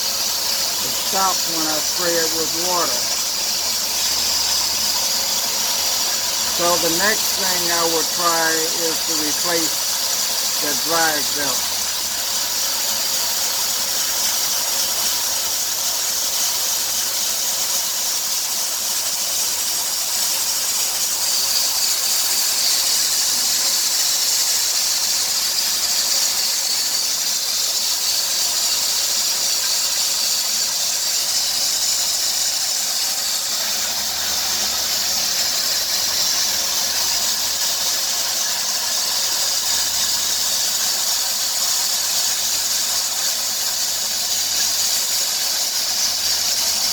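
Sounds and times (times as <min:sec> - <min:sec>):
high-pitched engine belt squeal: 0:00.0 - 0:17.8, 0:19.5 - 0:46.9.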